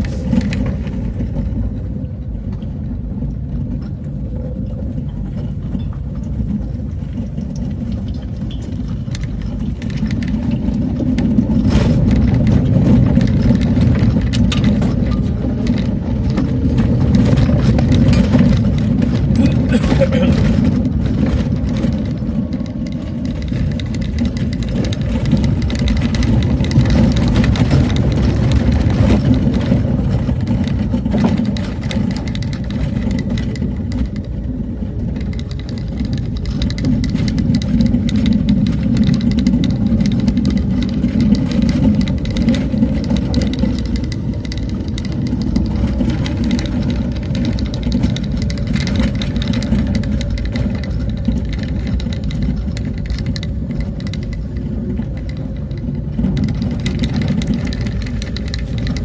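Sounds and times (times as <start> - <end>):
small rattles and knocks: 0.0 - 59.0
vehicle engine and road rumble: 0.0 - 59.0.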